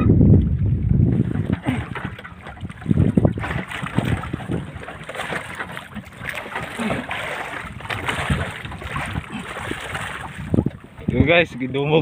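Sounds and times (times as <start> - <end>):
water splashing against a boat: 0.0 - 12.0
wind rumbling on microphone: 0.0 - 12.0.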